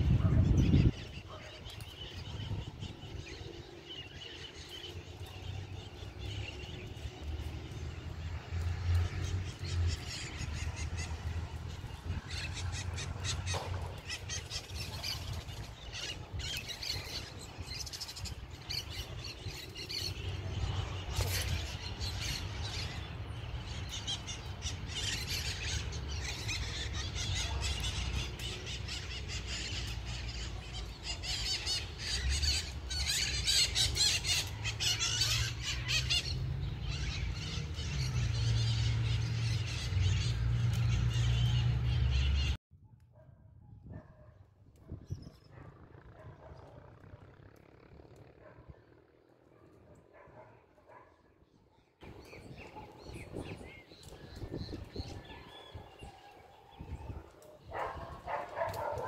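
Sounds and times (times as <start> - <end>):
birds chirping and calling: 0.0 - 42.6, 44.8 - 59.0.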